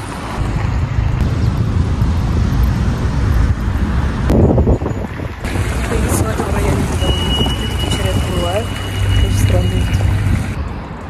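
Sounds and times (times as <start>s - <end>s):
road traffic rumble: 0.0s - 11.0s
wind on microphone: 0.0s - 11.0s.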